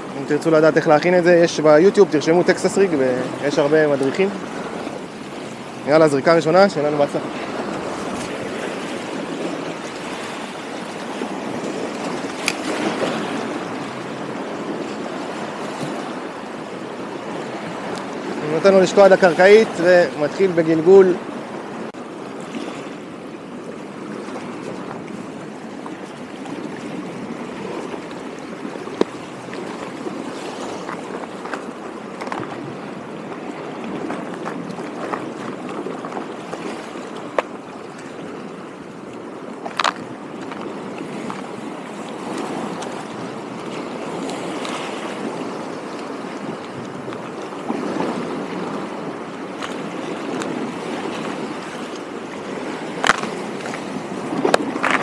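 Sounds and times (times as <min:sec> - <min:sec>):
waves lapping at shore: 0:00.0 - 0:55.0.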